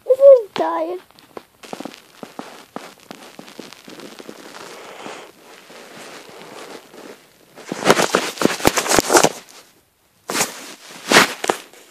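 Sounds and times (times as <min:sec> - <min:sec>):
cat fur rubbing on microphone: 0:00.2 - 0:09.7, 0:10.3 - 0:11.9.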